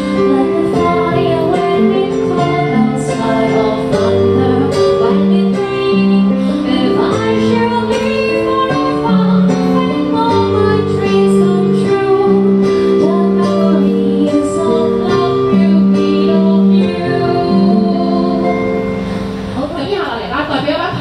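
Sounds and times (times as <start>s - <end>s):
slow piano ballad: 0.0s - 19.7s.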